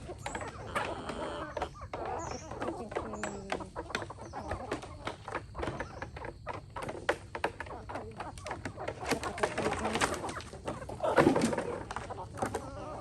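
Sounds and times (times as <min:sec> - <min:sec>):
chickens clucking: 0:00.0 - 0:13.0
chickens pecking: 0:00.0 - 0:13.0.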